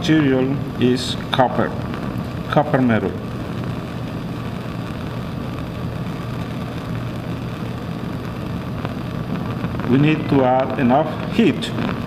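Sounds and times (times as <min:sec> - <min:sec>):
burner flame rushing: 0:00.0 - 0:12.0
low hum: 0:00.0 - 0:12.0.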